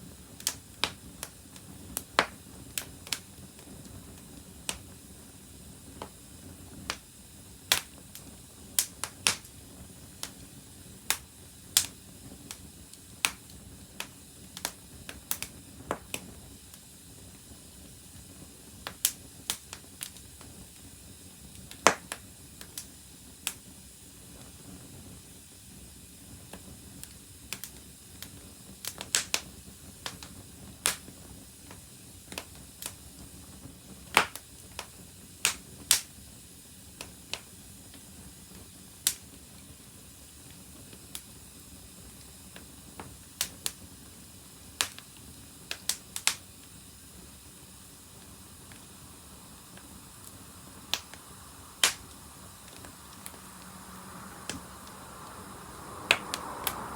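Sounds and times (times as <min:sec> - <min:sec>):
faint steady hiss: 0:00.0 - 0:56.9
wood fire crackling: 0:00.0 - 0:56.9.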